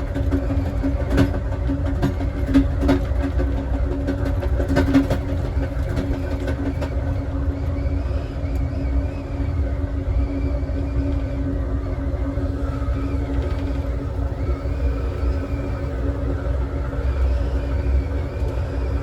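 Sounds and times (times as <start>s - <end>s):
constant hum: 0.0s - 19.0s
train car rumbling: 0.0s - 19.0s.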